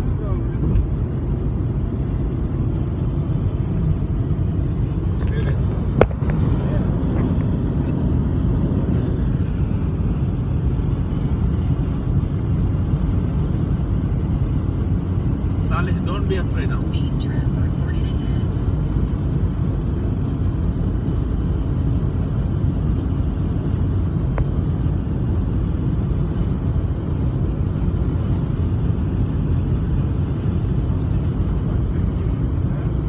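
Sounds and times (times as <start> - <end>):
car cabin road and wind noise: 0.0 - 33.0.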